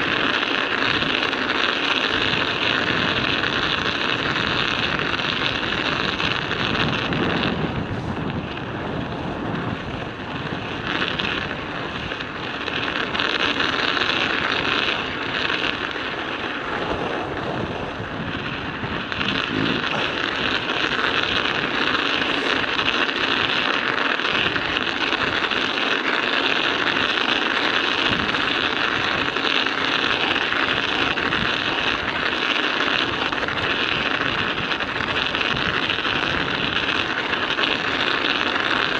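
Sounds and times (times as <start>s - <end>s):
wind buffeting microphone: 0.0s - 1.3s, 2.1s - 38.9s
studded bicycle tyres on ice: 0.0s - 38.9s.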